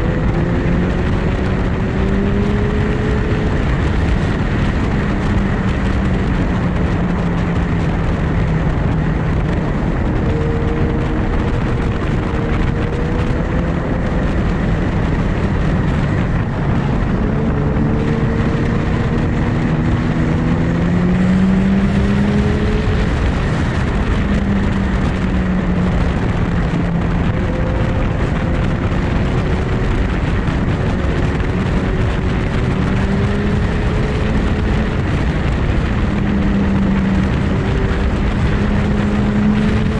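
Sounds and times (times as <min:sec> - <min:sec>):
loud rushing noise: 0:00.0 - 0:39.9
motorcycle engine running: 0:00.0 - 0:39.9.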